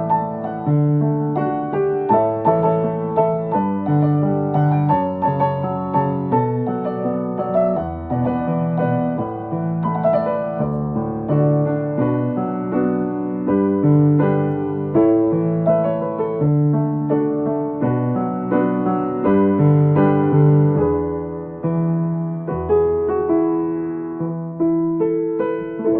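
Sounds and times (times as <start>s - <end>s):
piano-toned keyboard music: 0.0s - 25.9s.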